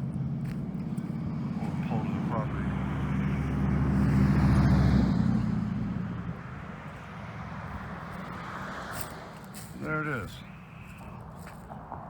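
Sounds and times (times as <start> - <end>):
vehicle driving past: 0.0 - 9.8.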